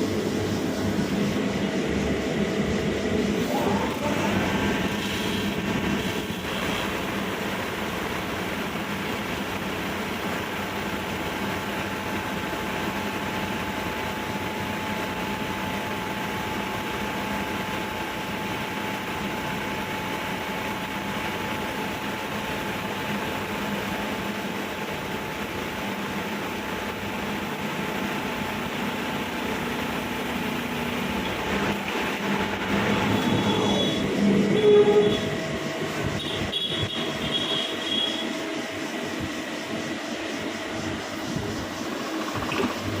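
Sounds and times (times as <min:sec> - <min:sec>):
machine running with steady whine: 0:00.0 - 0:43.0.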